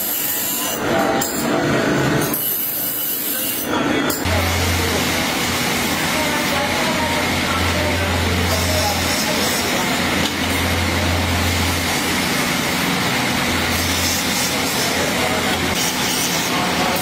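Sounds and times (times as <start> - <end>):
grinder motor hum: 0.0 - 17.0.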